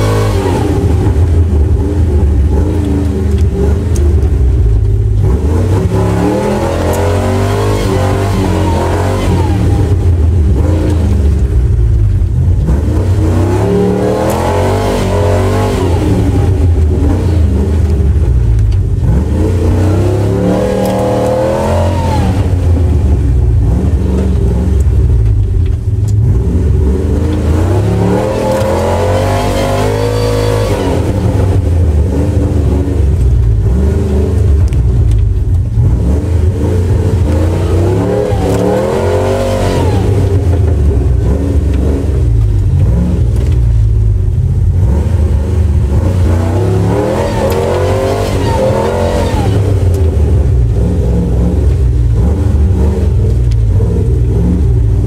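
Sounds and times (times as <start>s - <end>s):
truck engines revving hard: 0.0s - 55.0s.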